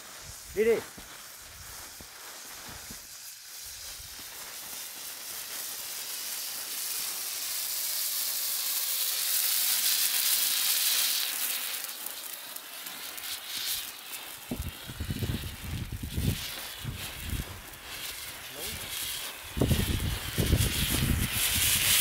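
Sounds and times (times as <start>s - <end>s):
flare burning with high hiss: 0.0s - 22.0s.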